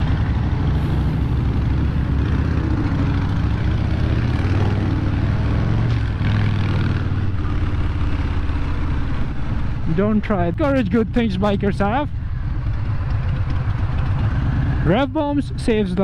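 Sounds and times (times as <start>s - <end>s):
motorcycle engine running at low revs: 0.0s - 16.0s.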